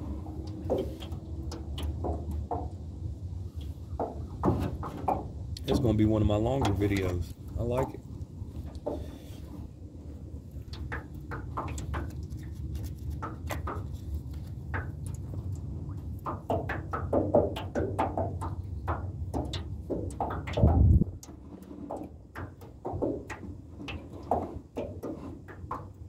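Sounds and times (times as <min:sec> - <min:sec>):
waves knocking on a metal hull: 0:00.0 - 0:26.0
wind rumble on microphone: 0:00.0 - 0:26.0.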